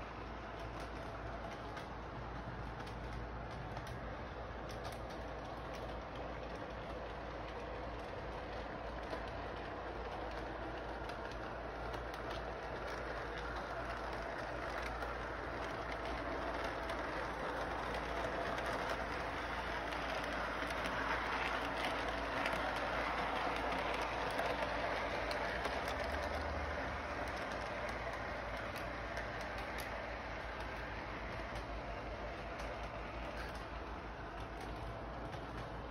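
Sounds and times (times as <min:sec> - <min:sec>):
constant low hum: 0:00.0 - 0:35.9
model train rolling on track: 0:00.0 - 0:35.9.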